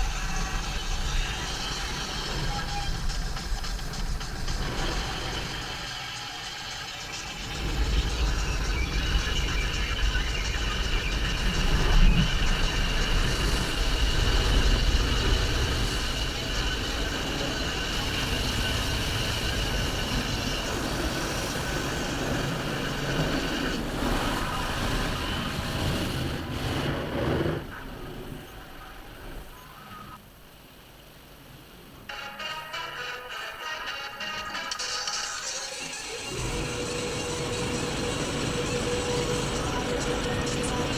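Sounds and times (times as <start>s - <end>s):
vehicle and machinery noise: 0.0s - 30.4s, 35.0s - 40.9s
high steady whine: 0.0s - 40.9s.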